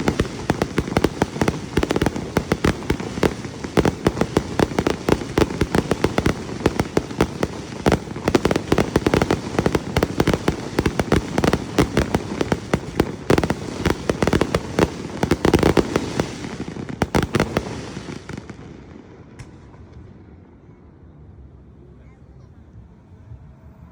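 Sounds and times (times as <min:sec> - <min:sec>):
fireworks bangs and crackles: 0:00.0 - 0:20.7.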